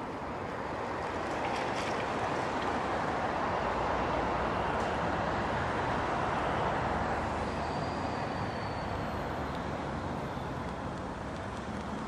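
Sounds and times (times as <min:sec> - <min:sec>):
road traffic rush: 0:00.0 - 0:12.0.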